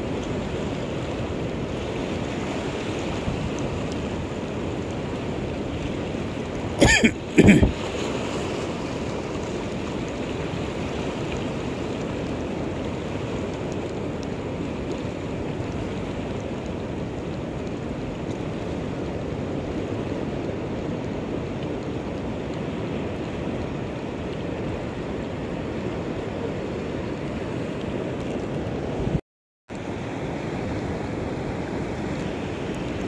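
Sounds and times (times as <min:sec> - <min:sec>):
waves washing over rocks: 0:00.0 - 0:33.0.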